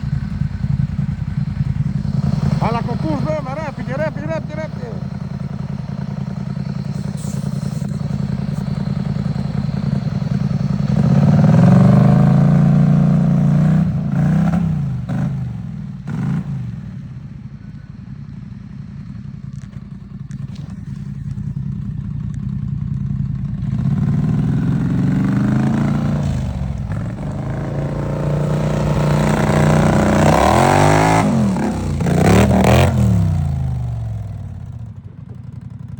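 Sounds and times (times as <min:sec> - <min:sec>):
atv engines revving: 0:00.0 - 0:18.5, 0:19.5 - 0:35.9.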